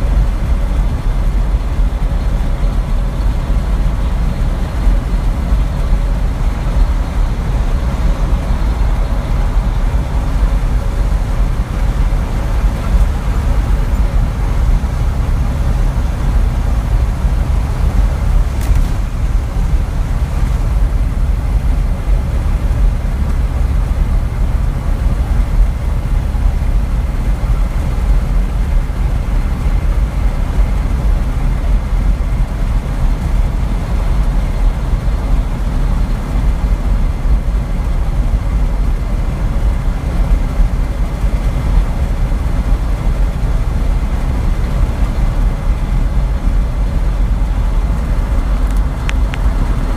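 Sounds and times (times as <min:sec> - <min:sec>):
truck engine rumbling: 0:00.0 - 0:49.9.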